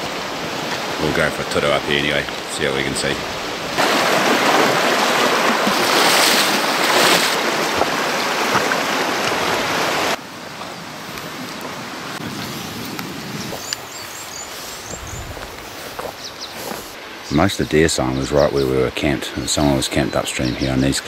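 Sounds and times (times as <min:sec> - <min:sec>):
river rushing and splashing: 0:00.0 - 0:18.3.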